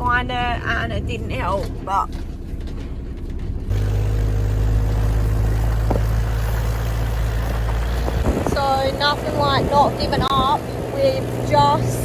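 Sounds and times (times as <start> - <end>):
road and wind noise: 0.0 - 12.0
vehicle engine droning: 0.0 - 12.0.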